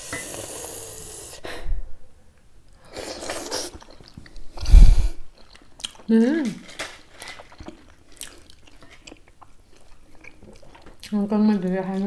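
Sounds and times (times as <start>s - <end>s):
slurping and chewing: 0.0s - 1.4s, 2.8s - 12.0s.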